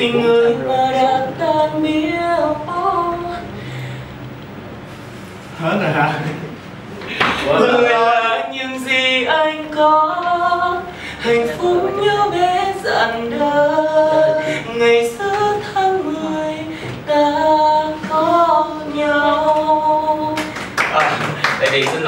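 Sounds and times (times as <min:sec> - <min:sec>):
young men singing a cappella: 0:00.0 - 0:03.6, 0:07.1 - 0:22.0.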